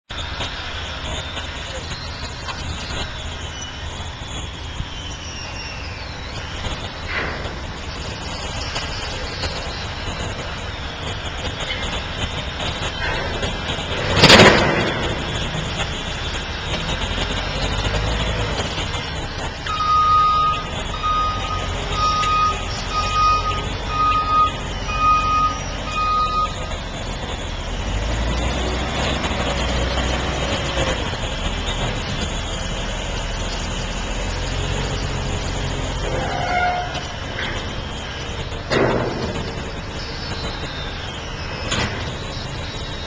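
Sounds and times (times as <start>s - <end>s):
heavy vehicle engine rumbling: 0.0s - 43.0s
reversing alarm beeps: 0.2s - 43.0s.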